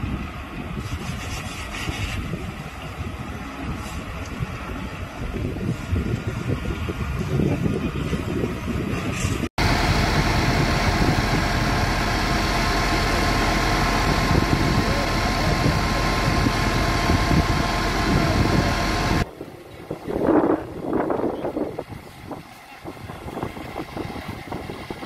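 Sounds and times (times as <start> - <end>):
fire truck engine and pump drone: 0.0 - 25.0
outdoor noise: 0.0 - 25.0.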